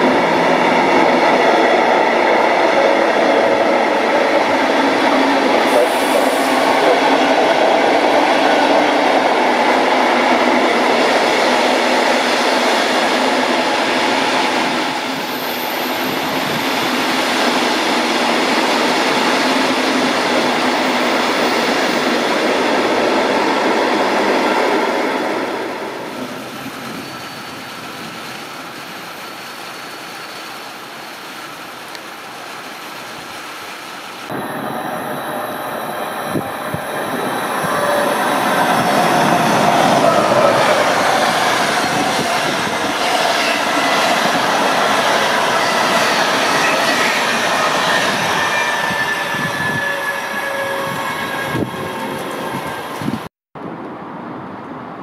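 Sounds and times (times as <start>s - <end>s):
train wheels rumbling on rail: 0.0s - 53.3s.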